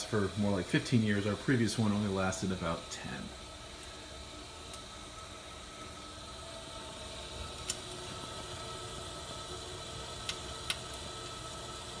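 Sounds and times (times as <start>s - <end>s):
water heater humming: 0.0s - 12.0s.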